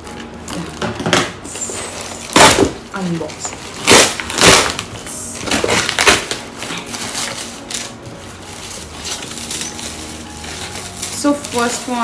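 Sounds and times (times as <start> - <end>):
packaging rustling: 0.0 - 12.0
packaging tearing and crinkling: 0.1 - 12.0.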